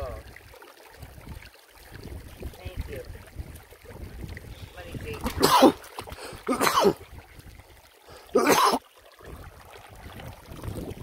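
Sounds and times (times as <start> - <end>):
river trickling over rocks: 0.0 - 11.0.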